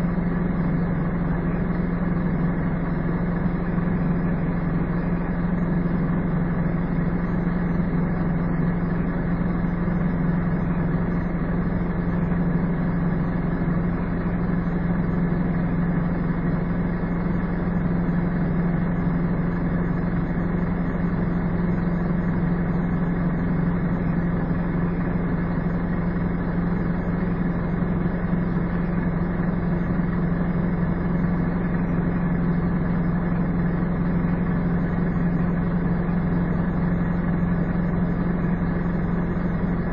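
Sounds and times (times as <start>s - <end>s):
diesel bus engine droning: 0.0s - 39.9s.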